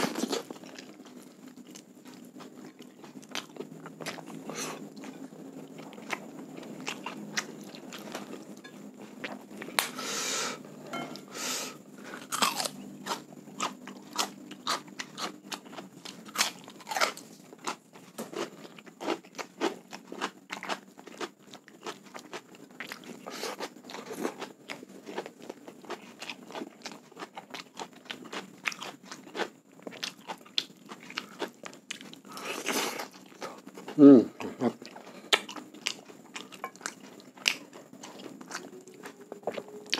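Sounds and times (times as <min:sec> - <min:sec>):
chewing with crunches: 0:00.0 - 0:10.0, 0:11.9 - 0:39.9.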